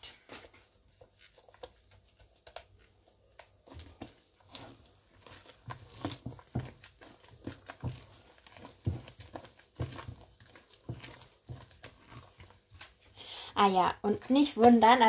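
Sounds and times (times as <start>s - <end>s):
wet squelches of batter folding: 0.0s - 15.0s.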